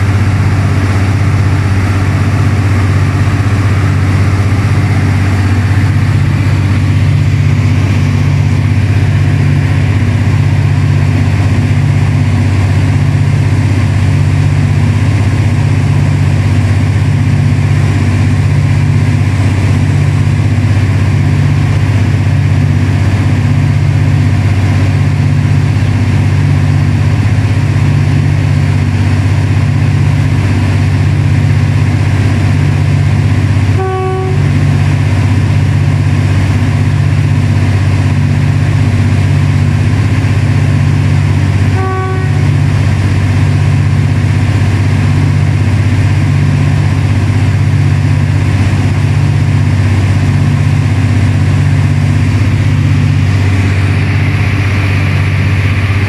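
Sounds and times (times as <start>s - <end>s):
diesel locomotive engine throbbing: 0.0s - 56.0s.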